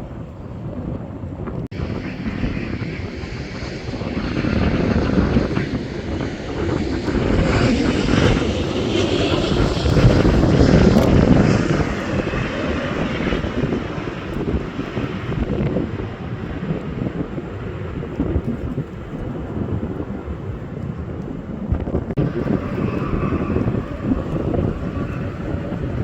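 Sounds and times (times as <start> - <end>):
airliner passing overhead: 0.0 - 26.0.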